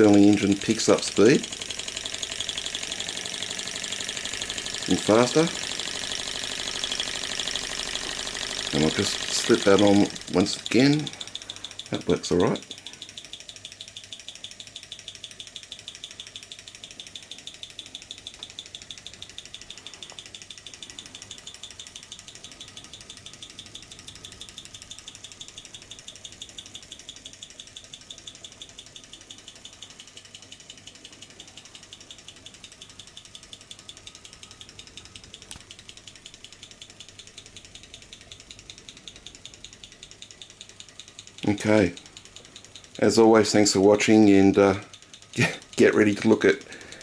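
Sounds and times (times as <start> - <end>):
engine mechanical clicking: 0.0 - 47.0.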